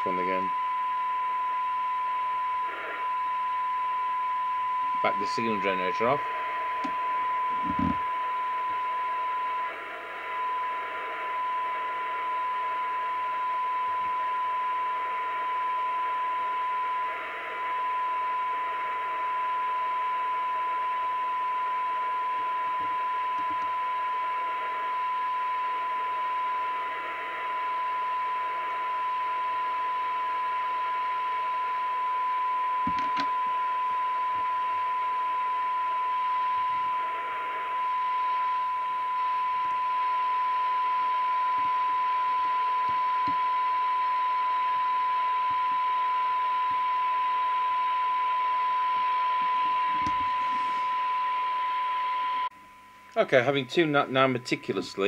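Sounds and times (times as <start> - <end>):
radio receiver hiss: 0.0 - 1.1, 2.0 - 55.0
steady test tone from loudspeaker: 0.0 - 55.0.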